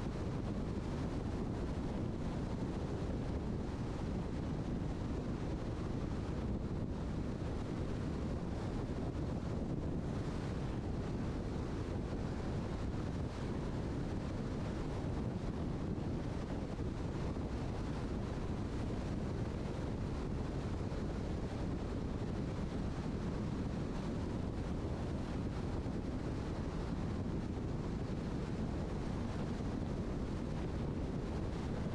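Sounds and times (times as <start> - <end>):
car road and wind noise: 0.0 - 31.9.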